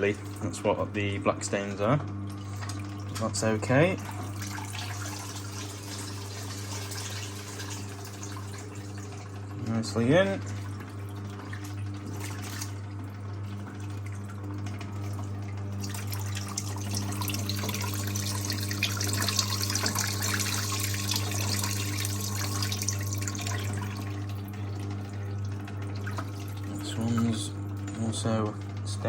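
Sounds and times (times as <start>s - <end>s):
water splashing into tub: 2.2s - 9.4s, 10.3s - 27.9s
wringer squeezing a towel: 2.4s - 29.0s.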